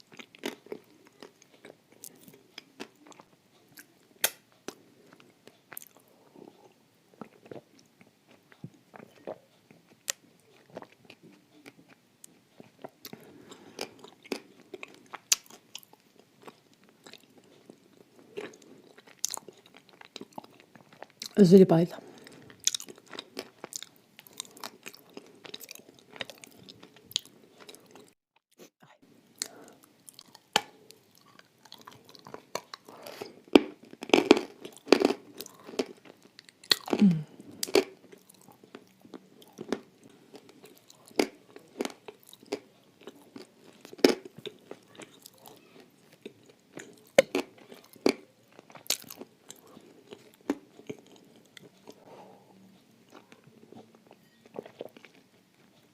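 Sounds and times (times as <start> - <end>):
crunching and chewing: 0.0 - 21.4, 22.0 - 28.6, 29.3 - 55.9.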